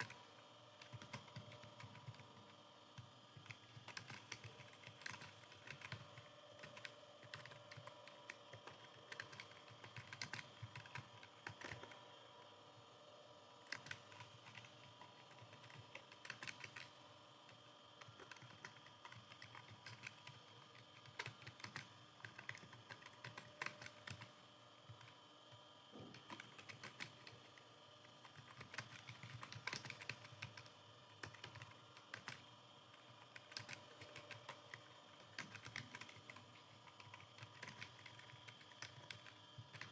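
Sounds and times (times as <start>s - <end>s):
faint steady hum: 0.0s - 39.9s
computer keyboard keys clicking: 0.8s - 12.0s, 13.6s - 25.2s, 26.0s - 39.9s.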